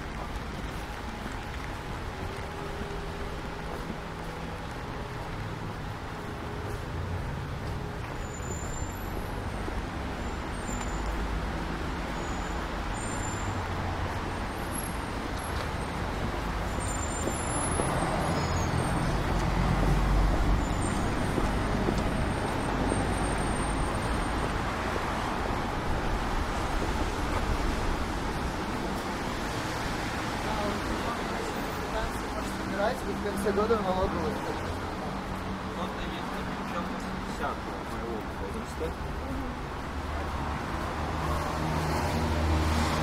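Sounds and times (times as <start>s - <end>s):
street traffic rumbling: 0.0s - 43.0s.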